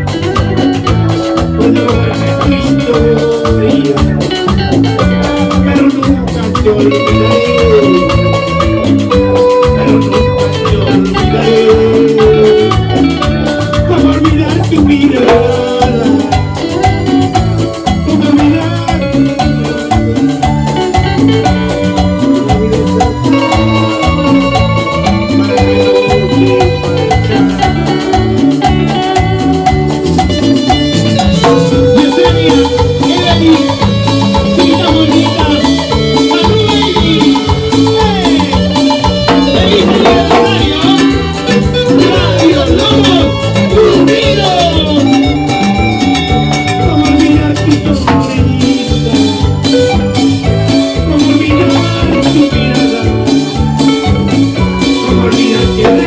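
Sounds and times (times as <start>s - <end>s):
live band playing latin dance music: 0.0s - 56.0s.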